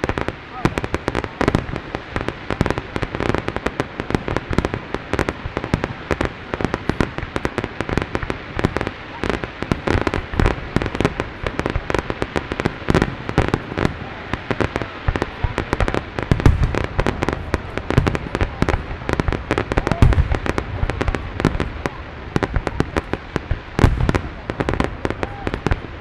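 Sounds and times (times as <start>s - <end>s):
fireworks booming: 0.0s - 26.0s
fireworks popping and crackling: 0.0s - 26.0s.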